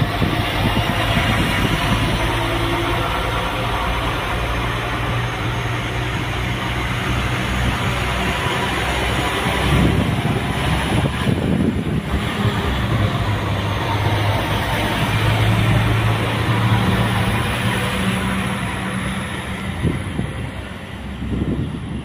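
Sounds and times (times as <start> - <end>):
train diesel engine droning: 0.0 - 22.0
wheel and rail noise: 0.0 - 22.0.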